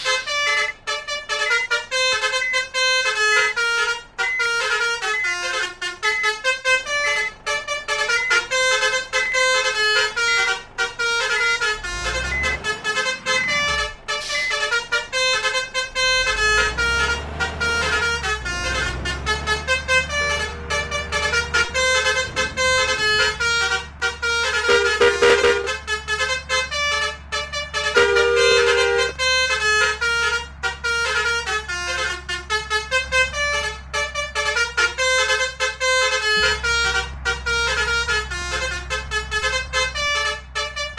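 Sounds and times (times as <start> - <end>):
deep engine rumble: 0.0 - 40.9
multi-tone musical air horn: 0.0 - 40.9.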